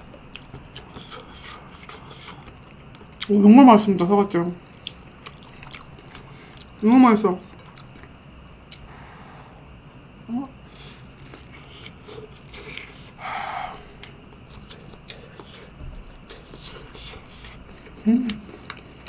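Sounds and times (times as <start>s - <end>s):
close chewing of soft food: 0.0s - 3.4s, 4.7s - 6.8s, 7.4s - 8.9s, 10.4s - 19.0s.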